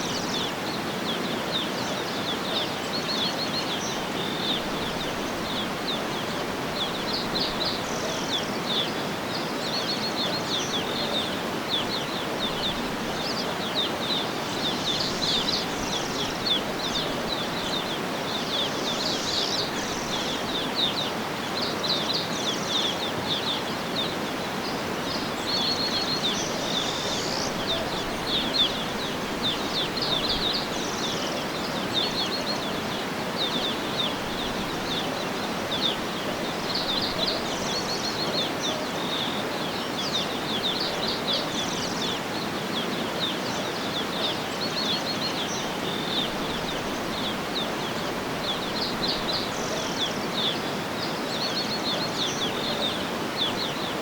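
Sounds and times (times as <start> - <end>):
birds chirping trills: 0.0 - 54.0
outdoor background hiss: 0.0 - 54.0.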